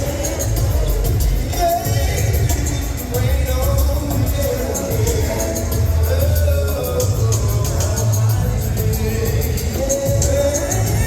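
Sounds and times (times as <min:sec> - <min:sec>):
line-dance music over sound system: 0:00.0 - 0:11.0.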